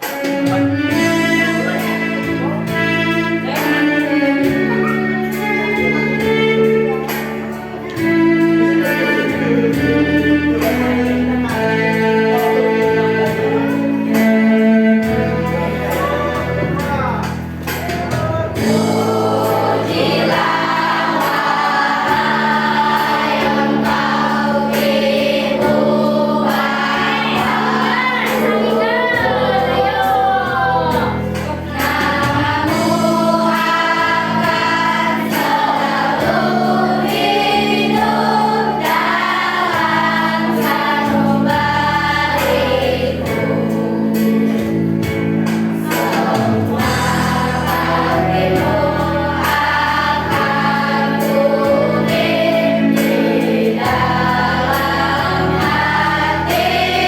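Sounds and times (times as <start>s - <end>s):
children's choir singing: 0.0s - 57.0s
sustained instrumental chords: 0.0s - 57.0s.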